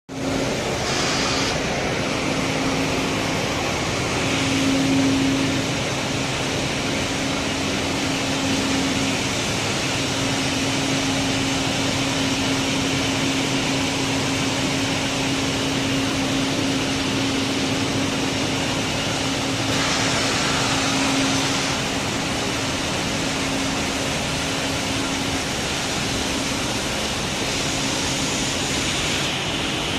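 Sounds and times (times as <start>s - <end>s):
machine humming: 0.1s - 29.9s.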